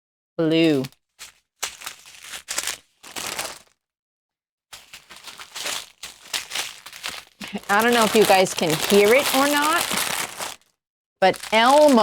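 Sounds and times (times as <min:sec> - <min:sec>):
plastic bags crinkling: 0:00.6 - 0:03.8, 0:04.8 - 0:12.0.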